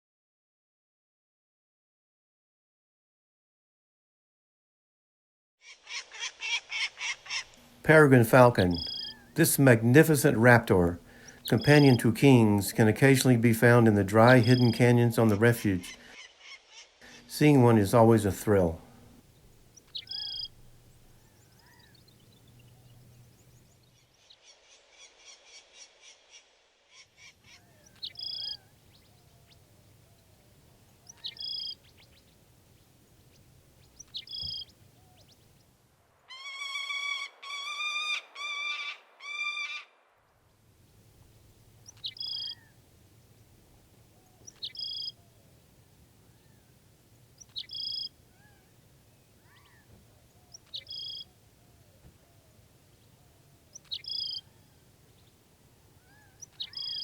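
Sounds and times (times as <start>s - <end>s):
harsh drawn-out bird calls: 5.6s - 35.7s, 36.3s - 40.0s, 40.9s - 57.0s
birds chirping: 5.9s - 25.7s, 27.0s - 39.7s, 40.5s - 57.0s.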